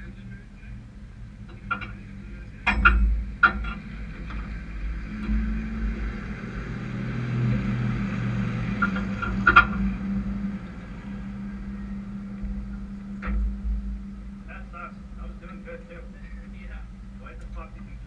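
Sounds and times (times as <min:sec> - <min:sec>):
race truck engines droning: 0:00.0 - 0:18.0.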